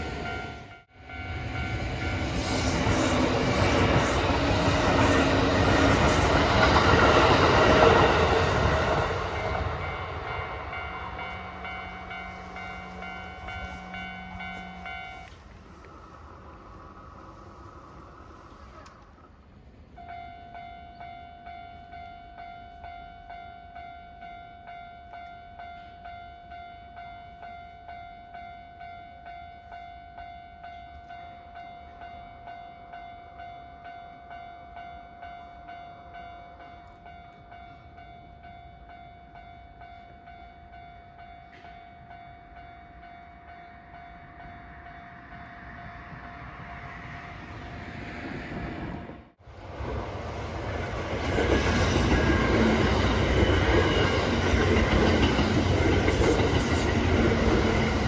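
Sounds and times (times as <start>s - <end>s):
approaching train: 0.0s - 58.0s.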